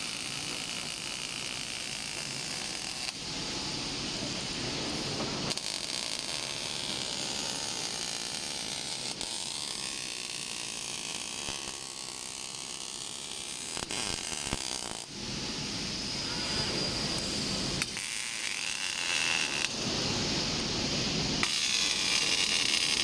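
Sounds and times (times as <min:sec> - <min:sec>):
welding crackling hiss: 0:00.0 - 0:23.0.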